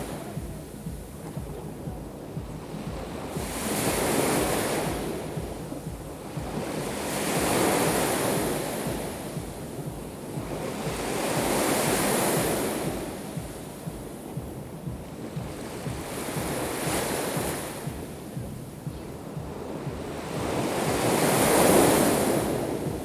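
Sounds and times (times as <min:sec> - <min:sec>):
waves breaking on shore: 0:00.0 - 0:23.0
wind rumbling on microphone: 0:00.0 - 0:23.0.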